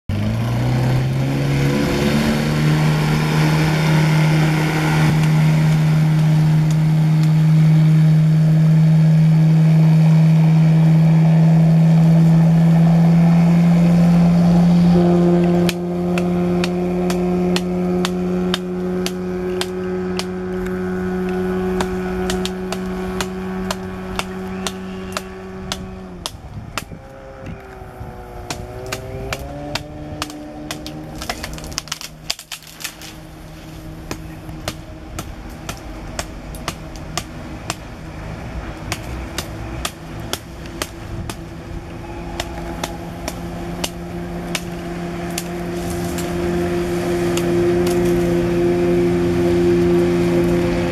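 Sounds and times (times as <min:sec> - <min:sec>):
boat engine running: 0:00.1 - 0:50.9.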